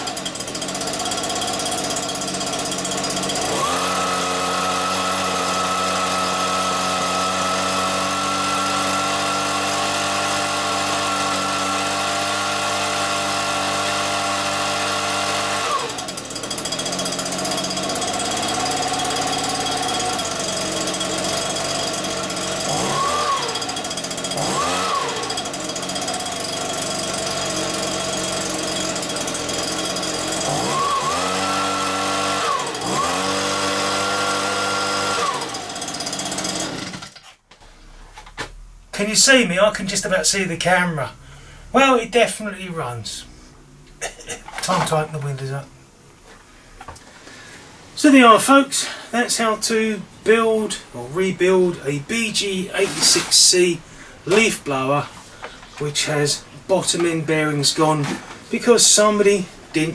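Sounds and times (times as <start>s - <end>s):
leaf blower engine revving: 0.0s - 59.9s.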